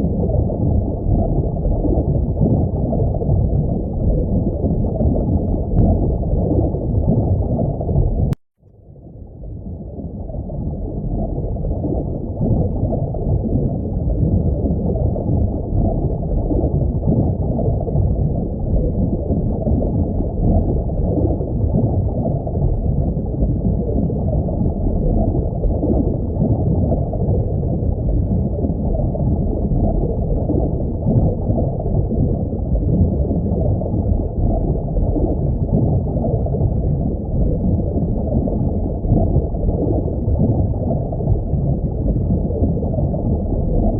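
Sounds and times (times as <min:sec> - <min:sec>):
muffled aquarium water rushing: 0:00.0 - 0:43.9.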